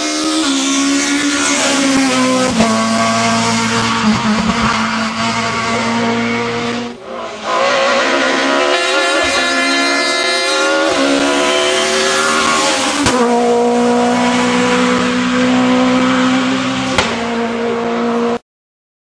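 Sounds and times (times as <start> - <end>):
rally car engine revving: 0.0 - 18.4.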